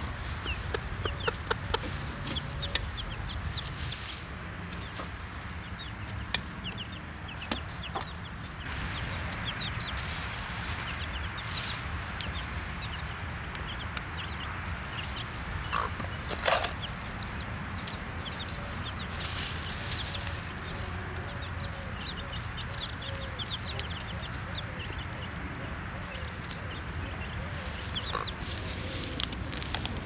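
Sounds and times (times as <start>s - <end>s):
baby chicks peeping: 0.0s - 30.0s
hen clucking: 0.0s - 30.0s.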